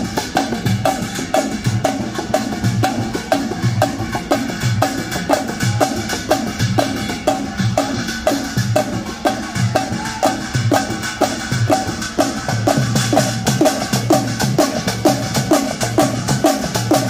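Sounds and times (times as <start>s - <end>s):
deep thumping drum beats: 0.0s - 17.0s.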